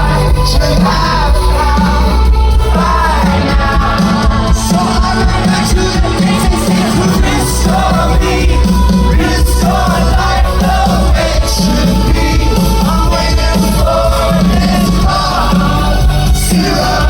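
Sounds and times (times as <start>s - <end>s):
person singing: 0.0s - 17.0s
rock band playing live: 0.0s - 17.0s.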